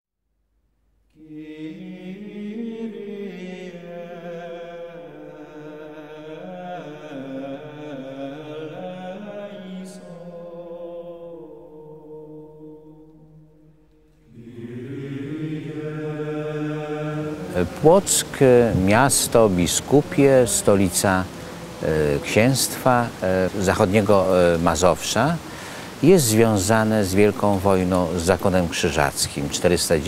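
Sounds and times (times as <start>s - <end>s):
choral chant with held notes: 1.1s - 30.0s.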